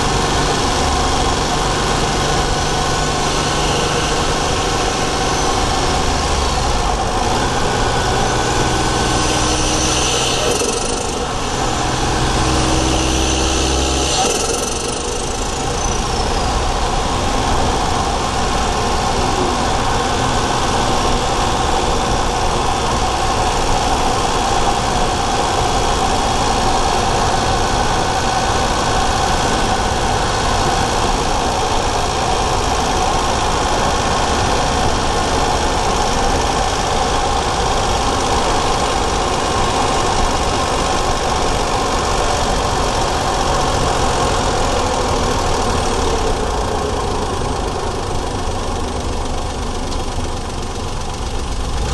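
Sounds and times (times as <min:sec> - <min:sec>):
car engine running steadily: 0:00.0 - 0:51.9.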